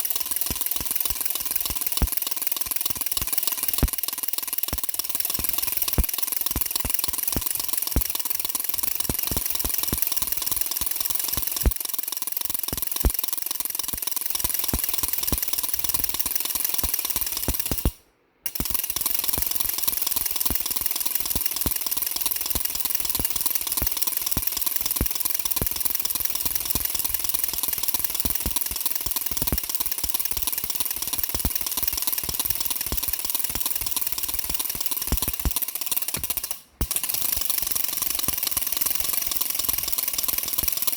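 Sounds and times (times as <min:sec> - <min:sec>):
baby rattle shaking: 0:00.0 - 0:17.8, 0:18.6 - 0:40.9.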